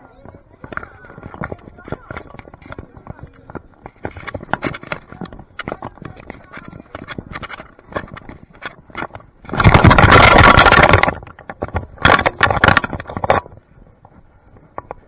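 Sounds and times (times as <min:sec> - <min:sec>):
scraping rumble on camera: 0:00.0 - 0:15.0
sharp clatters: 0:00.2 - 0:15.0.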